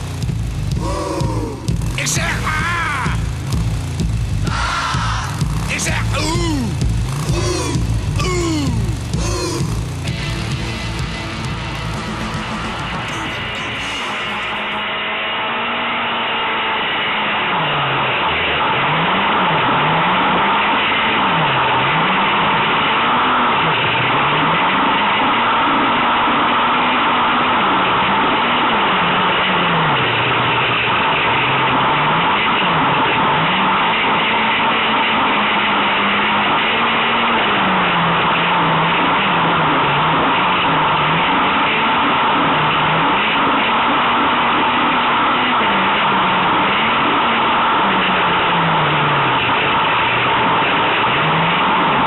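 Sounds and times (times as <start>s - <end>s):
car engine revving: 0.0s - 52.0s
car noise at speed: 0.0s - 52.0s.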